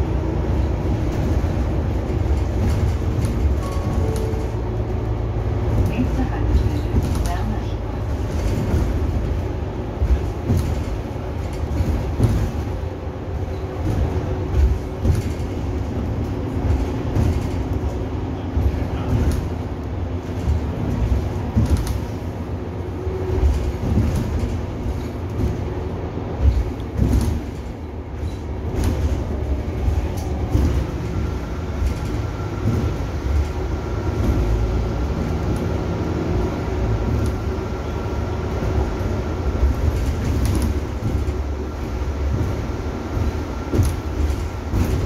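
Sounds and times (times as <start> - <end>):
bus engine and road rumble: 0.0 - 45.0.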